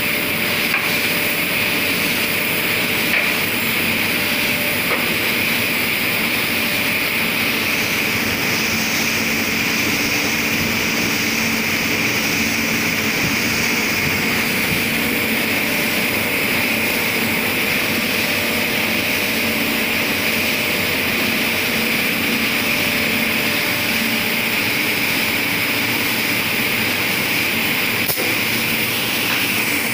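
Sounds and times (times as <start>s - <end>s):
printing press running: 0.0s - 29.9s.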